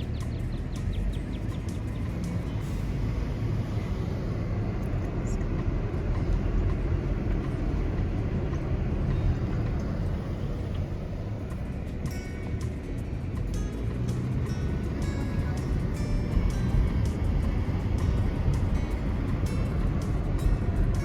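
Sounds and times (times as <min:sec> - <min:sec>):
low rumbling noise: 0:00.0 - 0:21.0.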